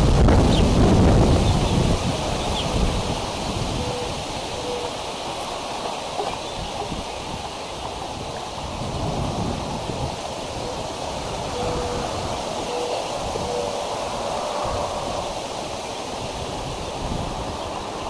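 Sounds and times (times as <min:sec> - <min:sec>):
leaves rustling: 0:00.0 - 0:18.0
wind buffeting microphone: 0:00.0 - 0:18.0.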